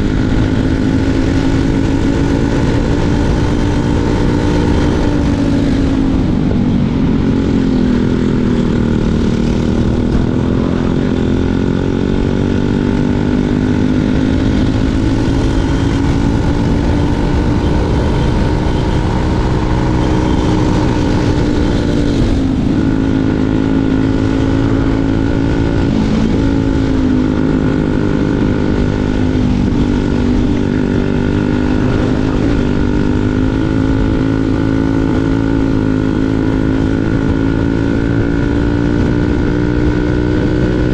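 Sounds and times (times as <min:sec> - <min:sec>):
kart engine running hard: 0:00.0 - 0:40.9.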